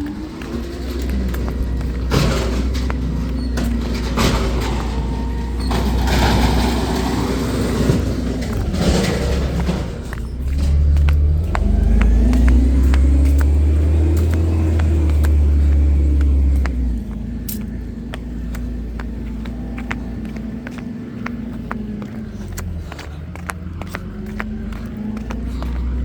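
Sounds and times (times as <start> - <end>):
sharp clicks and knocks: 0.0 - 26.0
truck engine rumbling: 0.0 - 26.0.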